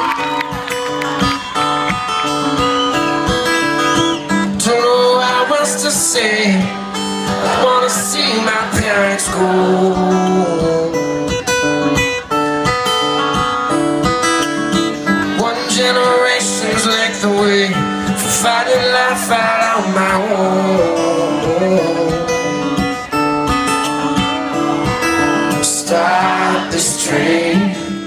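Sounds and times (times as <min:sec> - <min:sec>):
acoustic guitar: 0:00.0 - 0:28.0.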